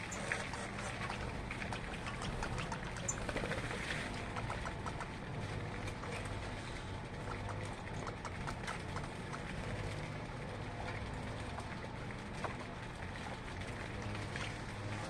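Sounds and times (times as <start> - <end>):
steady low rumble: 0.8 - 14.7.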